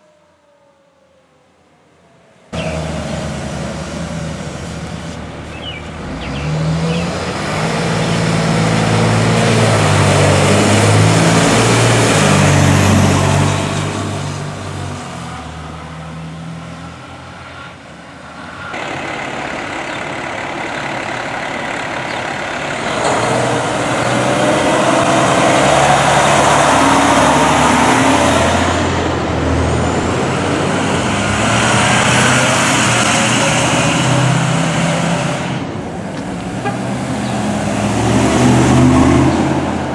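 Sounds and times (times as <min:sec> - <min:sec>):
fire truck engines revving: 0:00.0 - 0:39.9
road noise: 0:00.0 - 0:39.9.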